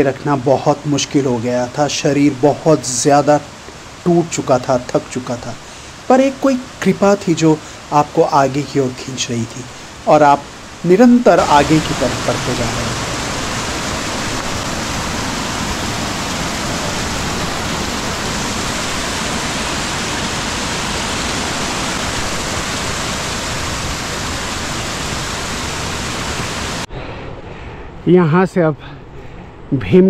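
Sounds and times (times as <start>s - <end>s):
stream rushing over boulders: 0.0s - 26.9s.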